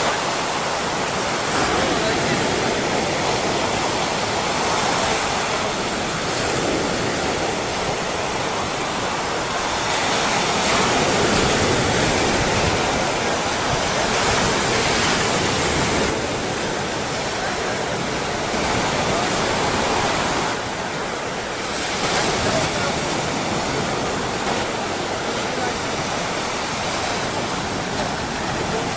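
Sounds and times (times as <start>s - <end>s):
waves breaking on beach: 0.0s - 28.9s.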